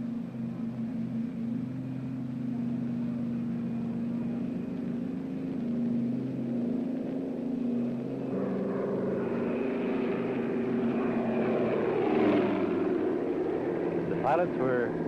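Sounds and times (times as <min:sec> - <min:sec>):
radial aircraft engines droning: 0:00.0 - 0:15.0.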